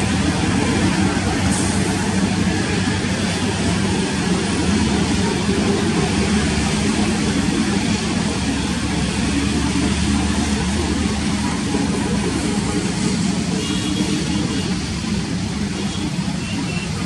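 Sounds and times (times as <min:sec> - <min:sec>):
jet engines at low thrust: 0:00.0 - 0:17.0.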